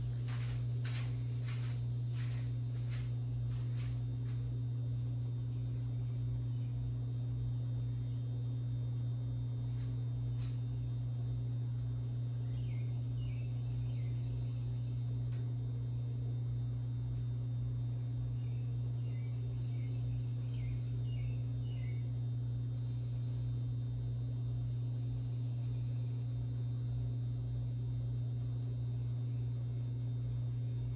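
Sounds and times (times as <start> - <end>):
ceiling fan motor humming: 0.0 - 30.9.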